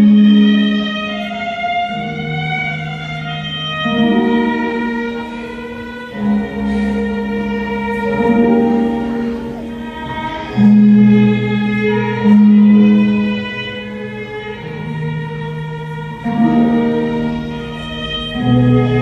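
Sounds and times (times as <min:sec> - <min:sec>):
slow classical string music: 0:00.0 - 0:19.0.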